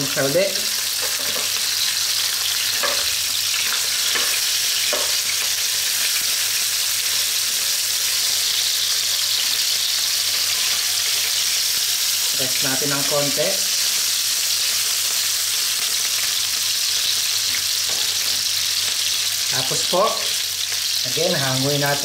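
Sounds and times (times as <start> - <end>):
liver sizzling in oil: 0.0 - 22.0.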